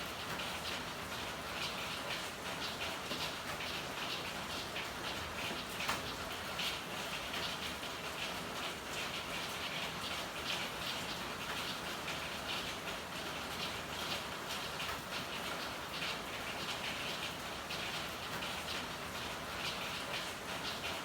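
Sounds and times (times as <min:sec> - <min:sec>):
rain pattering on hard surfaces: 0:00.0 - 0:21.0.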